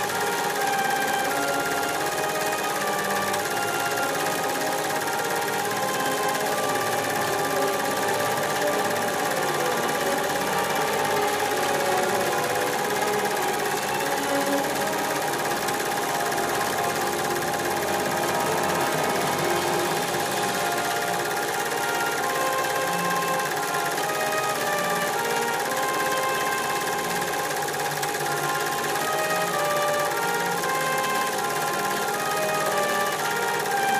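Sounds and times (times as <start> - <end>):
film projector clattering: 0.0 - 33.9.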